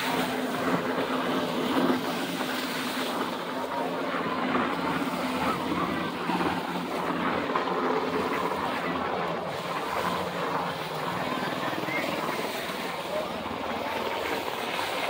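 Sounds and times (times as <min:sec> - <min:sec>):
distant helicopter hum: 0:00.0 - 0:15.0
small waves lapping: 0:00.0 - 0:15.0.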